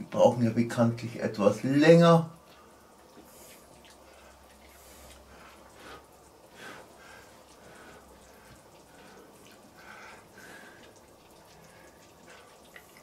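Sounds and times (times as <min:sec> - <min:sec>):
stew bubbling with little pops: 0:00.0 - 0:13.0.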